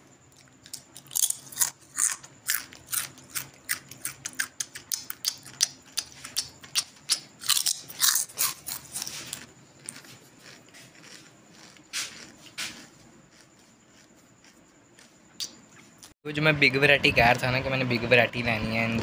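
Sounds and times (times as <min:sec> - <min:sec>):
person chewing crunchy snack: 0:00.3 - 0:16.2.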